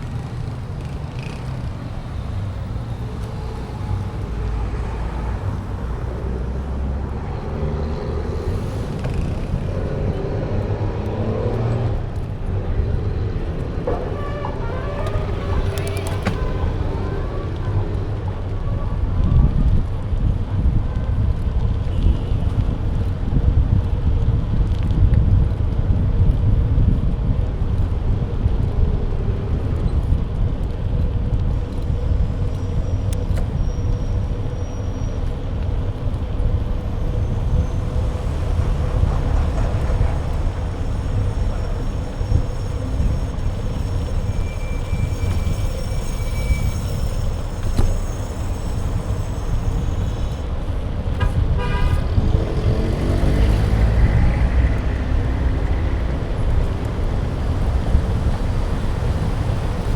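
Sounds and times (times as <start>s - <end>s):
passing traffic: 0.0s - 59.9s
road noise: 0.0s - 59.9s
wind rumble on microphone: 0.0s - 59.9s.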